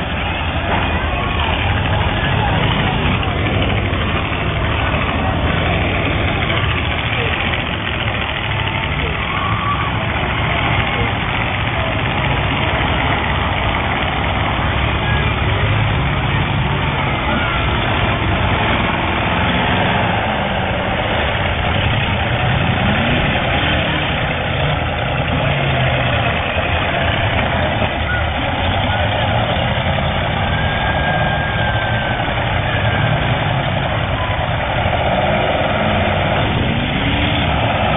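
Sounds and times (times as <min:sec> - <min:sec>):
car engines running and revving: 0:00.0 - 0:37.9.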